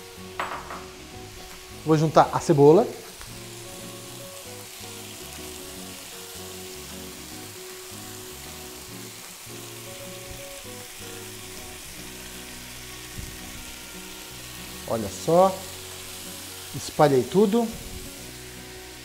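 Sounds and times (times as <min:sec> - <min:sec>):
food sizzling in frying pan: 0:00.0 - 0:19.0
soft background music: 0:00.0 - 0:19.0.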